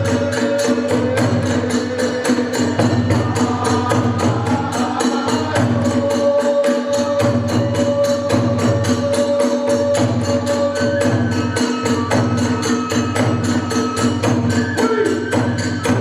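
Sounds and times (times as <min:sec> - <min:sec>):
drum beating: 0:00.0 - 0:16.0
hand cymbals: 0:00.0 - 0:16.0.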